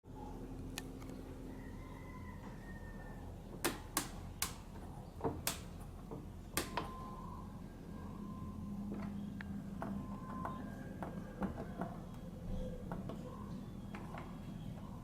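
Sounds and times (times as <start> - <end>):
low steady hum: 0.1 - 15.0.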